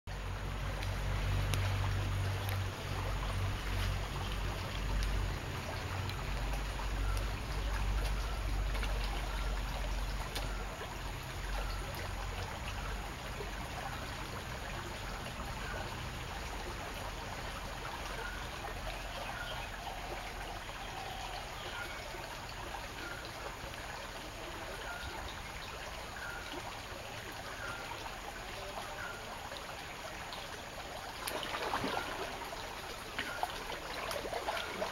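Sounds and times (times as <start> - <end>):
shallow river trickling: 0.1 - 34.9.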